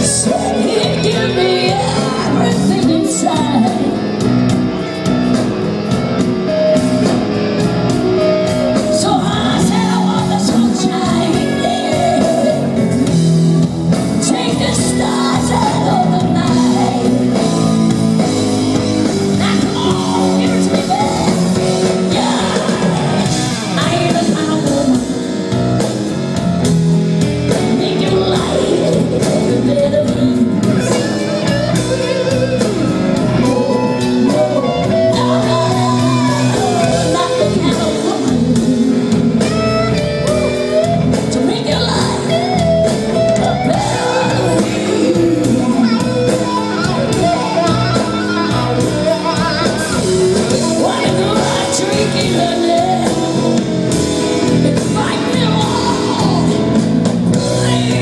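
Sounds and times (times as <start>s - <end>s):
woman singing: 0.0s - 4.2s, 8.7s - 13.2s, 13.9s - 25.4s, 27.2s - 39.8s, 40.8s - 58.0s
live rock band playing blues: 0.0s - 58.0s.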